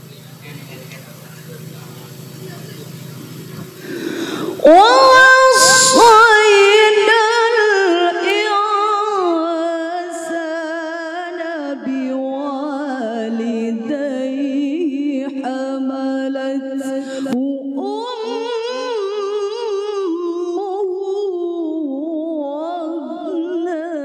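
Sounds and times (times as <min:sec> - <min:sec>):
woman chanting melodically: 0:04.0 - 0:24.0.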